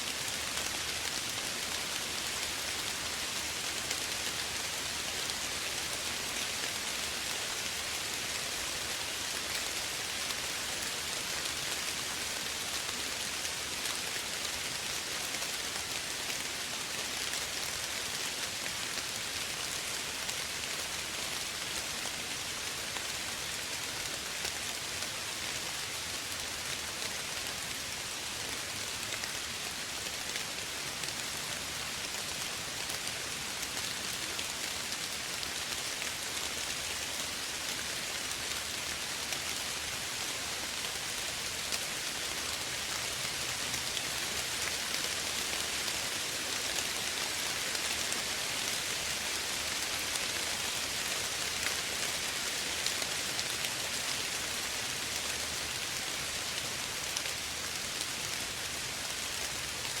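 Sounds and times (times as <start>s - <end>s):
steady soft rain: 0.0s - 60.0s.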